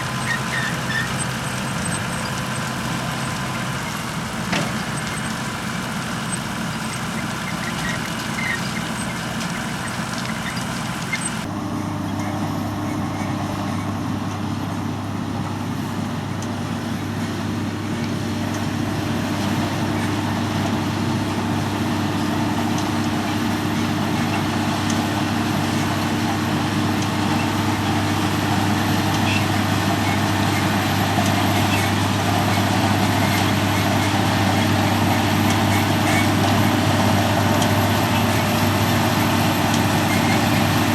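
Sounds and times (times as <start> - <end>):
farm machinery engines running: 0.0 - 40.9
machine engine hum: 0.0 - 40.9.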